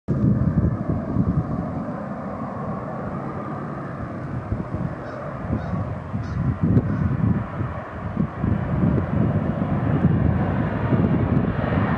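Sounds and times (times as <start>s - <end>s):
distant jet aircraft rumble: 0.1s - 11.9s
wind on microphone: 0.1s - 11.9s.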